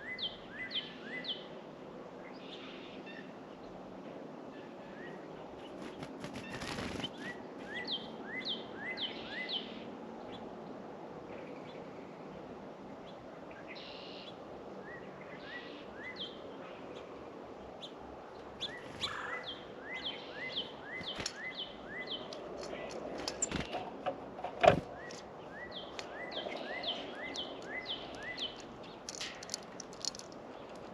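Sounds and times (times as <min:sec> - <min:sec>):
songbirds chirping: 0:00.0 - 0:30.9
steady outdoor hiss: 0:00.0 - 0:30.9.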